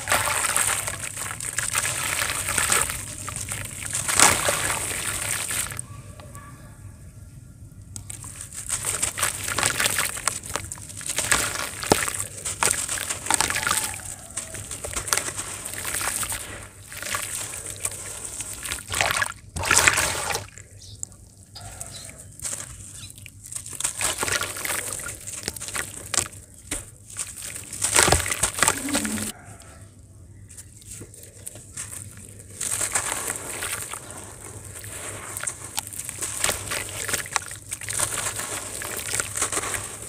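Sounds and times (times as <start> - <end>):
grains splashing into water: 0.0 - 5.8, 8.0 - 21.1, 22.2 - 29.3, 31.9 - 40.0
wet sand crumbling between hands: 0.0 - 5.8, 8.0 - 21.0, 21.8 - 29.4, 30.5 - 40.0.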